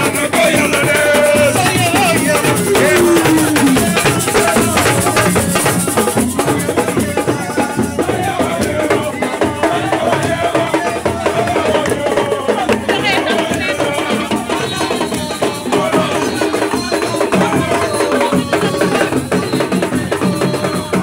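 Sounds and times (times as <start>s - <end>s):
percussion music with drums: 0.0s - 21.0s.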